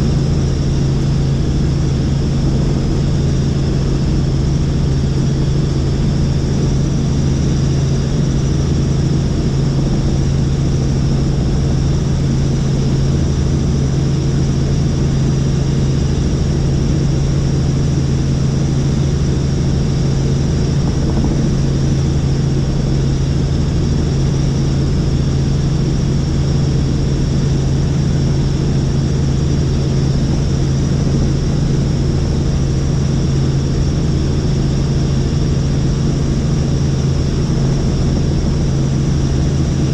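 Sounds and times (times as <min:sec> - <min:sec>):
helicopter rotor and engine hum: 0:00.0 - 0:39.9.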